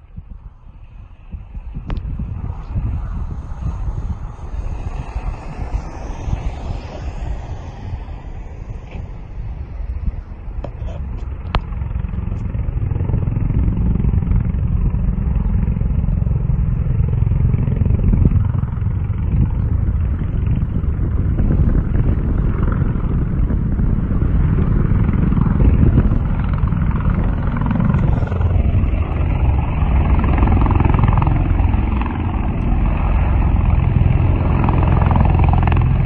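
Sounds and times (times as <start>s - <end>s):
aircraft rotors rumbling: 0.0s - 36.0s.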